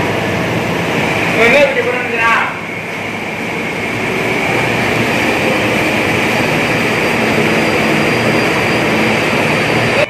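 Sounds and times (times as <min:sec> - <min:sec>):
low steady roar: 0:00.0 - 0:10.0.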